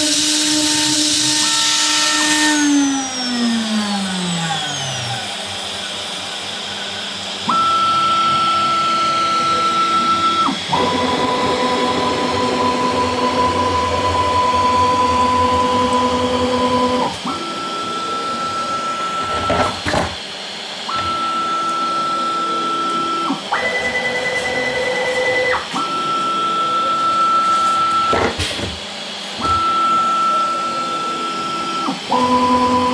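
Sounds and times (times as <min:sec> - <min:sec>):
router drives whining: 0:00.0 - 0:32.9.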